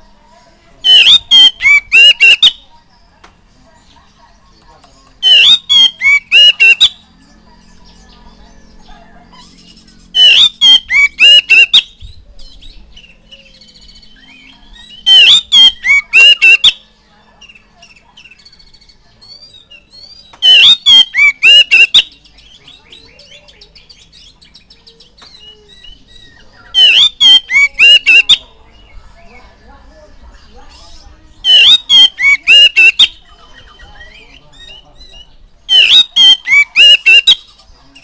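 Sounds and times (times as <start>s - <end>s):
bird singing whistled notes: 0.8s - 2.7s, 5.2s - 7.0s, 9.4s - 29.6s, 30.4s - 38.0s.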